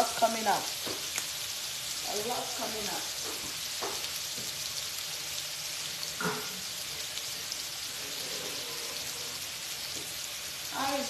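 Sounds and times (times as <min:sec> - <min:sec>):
fish and meat sizzling in butter: 0:00.0 - 0:11.0.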